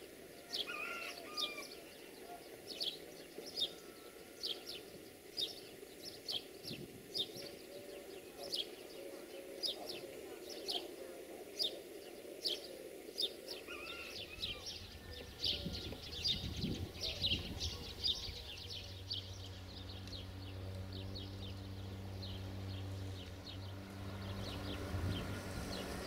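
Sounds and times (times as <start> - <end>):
songbirds chirping: 0.0 - 26.0
diesel locomotive engine drone: 1.7 - 26.0.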